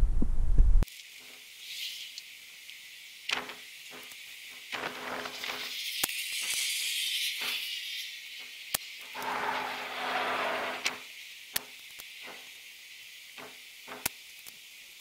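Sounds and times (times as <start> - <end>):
steady high hiss: 0.8 - 15.0.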